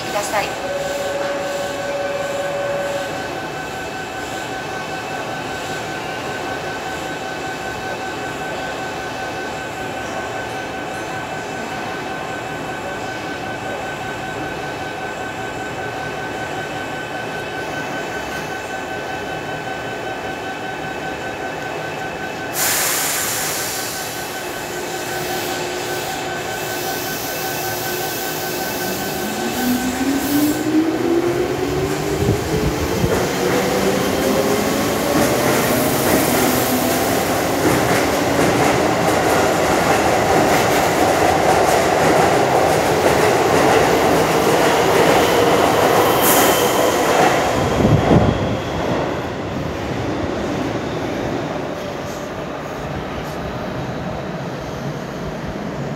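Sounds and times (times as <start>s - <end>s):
electric train humming: 0.0s - 55.9s.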